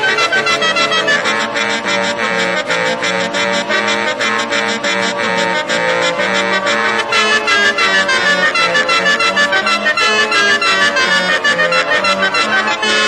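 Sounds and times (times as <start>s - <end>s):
air horns playing a tune: 0.0s - 13.0s.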